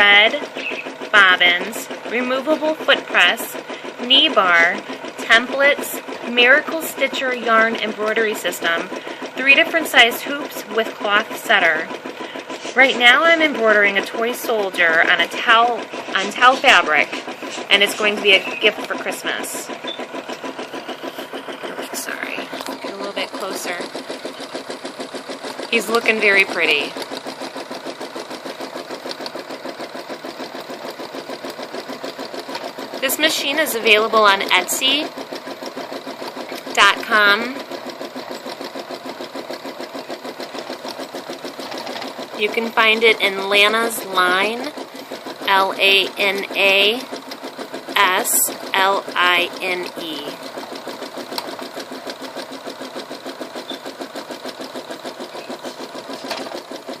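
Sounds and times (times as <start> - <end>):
embroidery machine stitching: 0.0 - 57.0.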